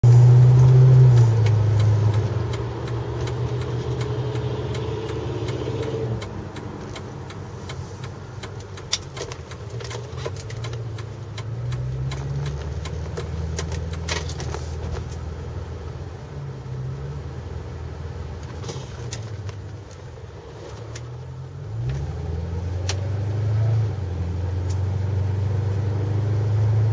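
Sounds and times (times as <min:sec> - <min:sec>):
car engine running: 0:00.0 - 0:26.9.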